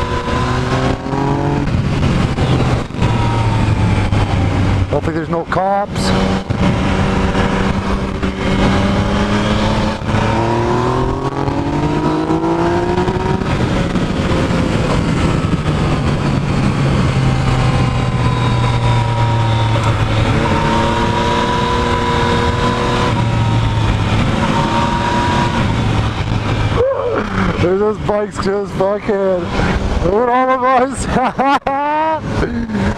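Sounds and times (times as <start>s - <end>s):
wind rushing: 0.0s - 5.2s, 5.8s - 30.3s
motorcycle engine accelerating: 0.0s - 32.9s.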